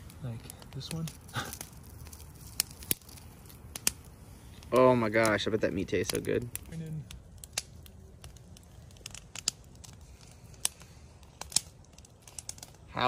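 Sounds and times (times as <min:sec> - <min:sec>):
sharp clicks and crackles: 0:00.0 - 0:13.0.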